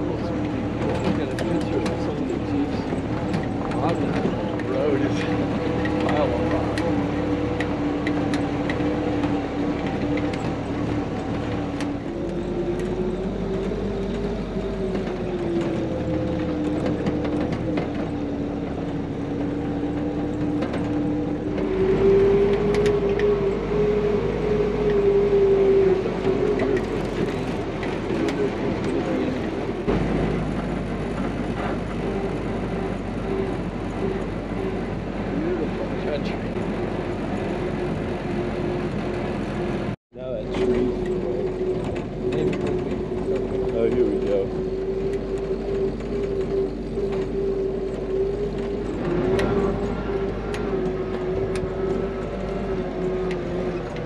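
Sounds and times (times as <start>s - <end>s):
jeep engine running: 0.0s - 54.0s.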